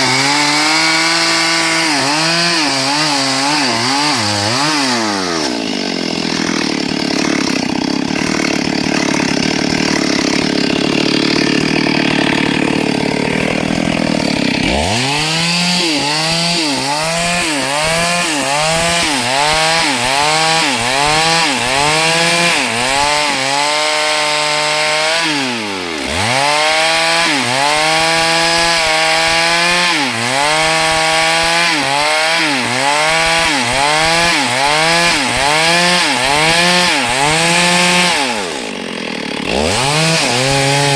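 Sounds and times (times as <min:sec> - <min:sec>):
chainsaw cutting through wood: 0:00.0 - 0:40.9.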